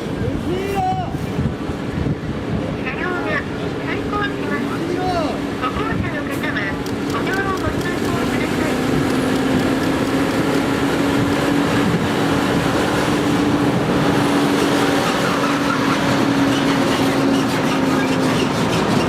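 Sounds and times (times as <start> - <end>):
street noise rush: 0.0 - 19.0
vehicle humming: 1.4 - 19.0.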